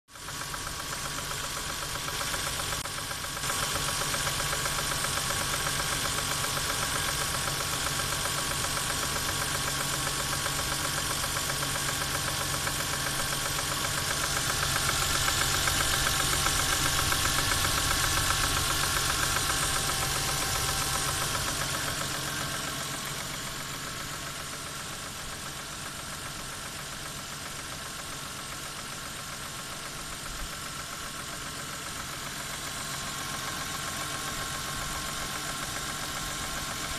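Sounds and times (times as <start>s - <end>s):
car engine running with knock: 0.1s - 36.9s.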